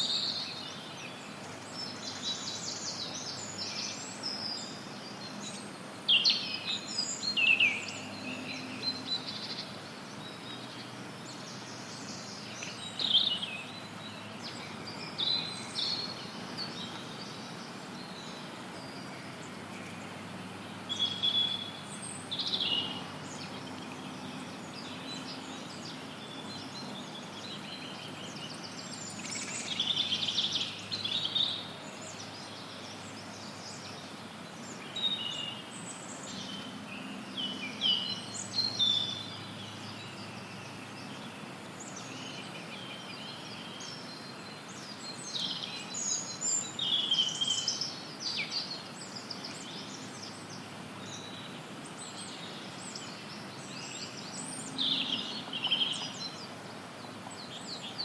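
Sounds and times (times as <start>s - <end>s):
songbirds chirping: 0.0s - 58.0s
white noise hiss: 0.0s - 58.0s.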